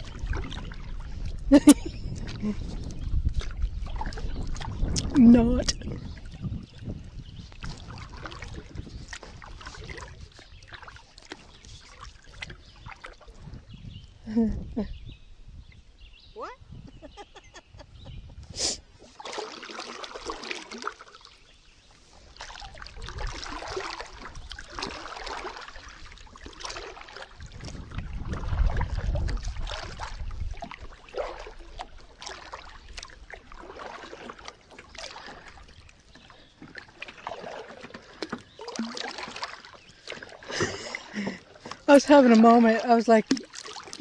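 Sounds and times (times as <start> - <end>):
paddle splashing in water: 0.0 - 14.2, 18.5 - 44.0.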